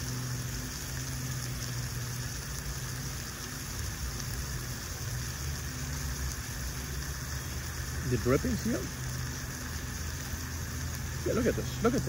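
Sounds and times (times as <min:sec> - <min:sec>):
cooling fan hum: 0:00.0 - 0:12.0
meat sizzling on grill: 0:00.0 - 0:12.0.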